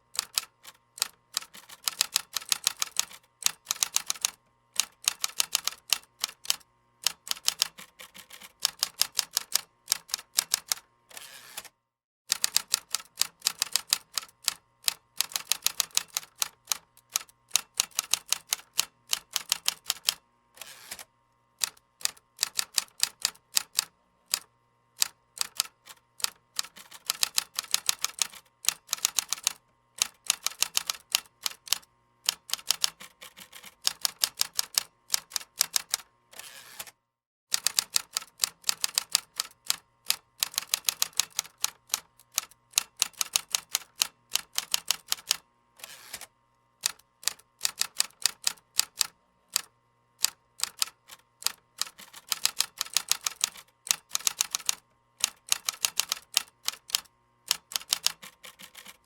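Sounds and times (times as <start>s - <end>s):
fast typing on computer keyboard: 0.2s - 10.8s, 12.3s - 20.2s, 21.6s - 36.1s, 37.5s - 45.4s, 46.8s - 59.0s.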